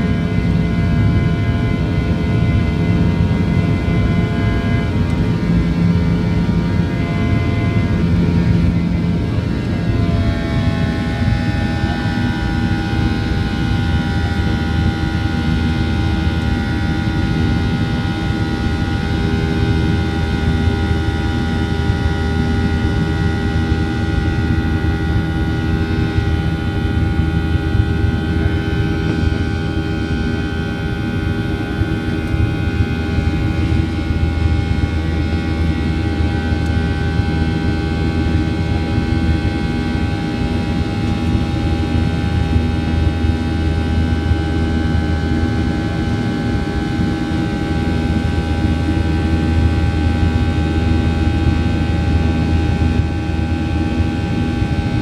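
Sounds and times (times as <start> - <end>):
airplane cabin engine rumble: 0.0 - 55.0
high engine whine: 0.0 - 55.0.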